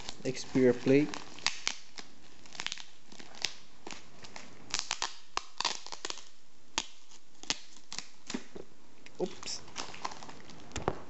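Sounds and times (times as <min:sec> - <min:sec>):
plastic packet crinkling: 0:00.0 - 0:08.4, 0:09.2 - 0:11.0.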